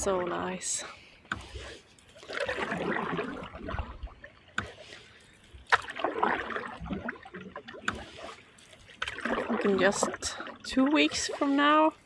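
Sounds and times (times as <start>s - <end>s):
paddle strokes in water: 0.0s - 12.0s.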